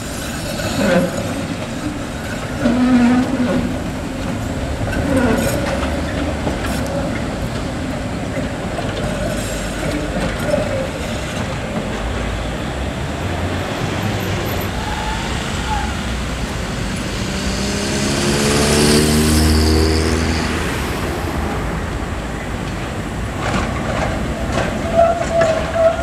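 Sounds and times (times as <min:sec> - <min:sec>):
low tram whine: 0:00.0 - 0:26.0
street traffic: 0:00.0 - 0:26.0
tram wheels rumbling on rails: 0:00.0 - 0:26.0.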